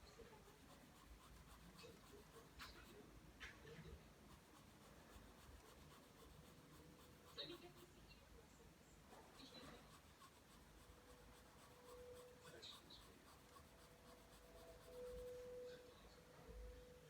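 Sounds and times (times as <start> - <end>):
pencil scratching on paper: 0.0 - 8.1, 9.1 - 15.8
faint steady hum: 0.0 - 17.0.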